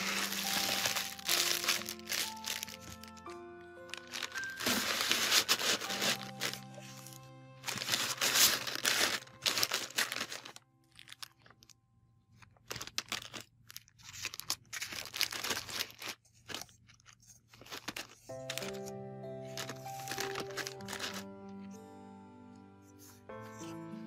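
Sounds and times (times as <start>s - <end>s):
packaging crinkling: 0.0s - 21.3s.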